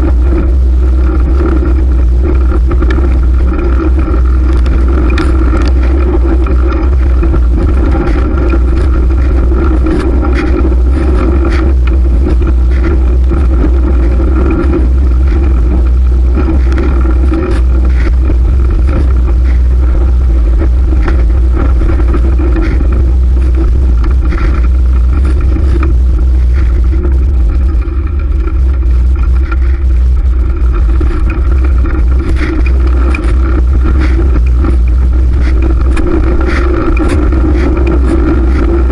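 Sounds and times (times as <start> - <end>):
rolling road noise: 0.0 - 38.9
wind rush on microphone: 0.0 - 38.9.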